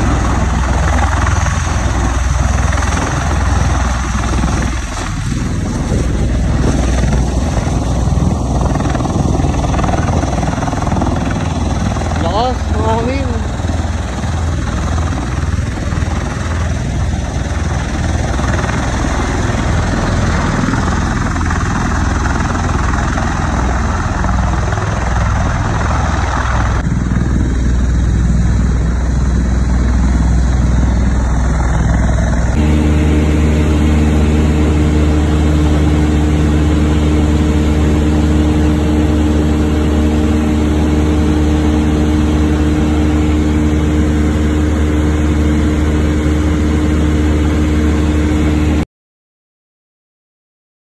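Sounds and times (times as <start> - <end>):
light aircraft engine drone in cabin: 0.0 - 48.8
tiltrotor aircraft rotors pulsing: 0.0 - 48.8.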